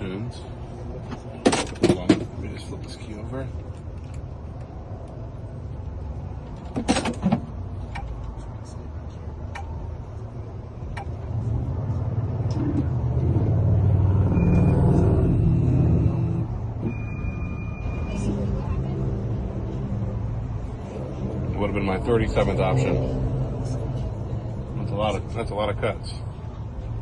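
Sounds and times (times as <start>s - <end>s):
low vehicle rumble: 0.0s - 27.0s.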